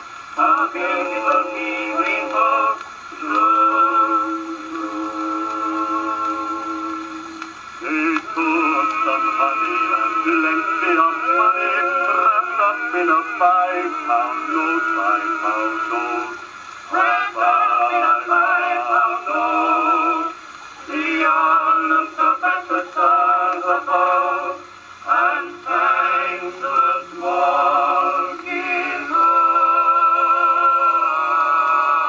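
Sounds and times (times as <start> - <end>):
male vocal quartet on old record: 0.0 - 32.0.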